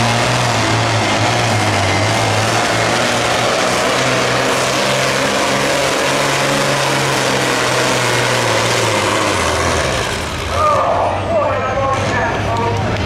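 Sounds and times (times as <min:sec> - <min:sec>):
diesel tractor engine under load: 0:00.0 - 0:13.0.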